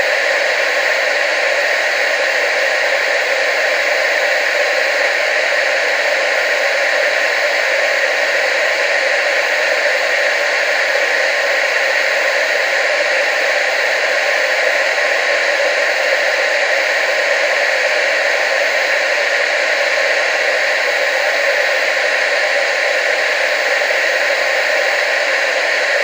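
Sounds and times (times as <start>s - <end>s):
tv static hiss: 0.0s - 26.0s.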